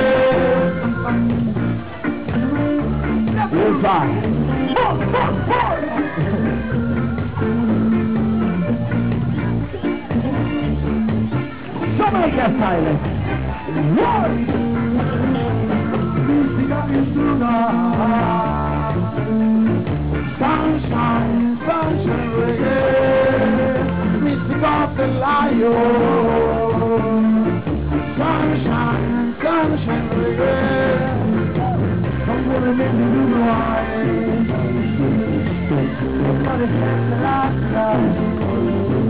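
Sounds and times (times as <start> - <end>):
live reggae band playing: 0.0 - 39.0.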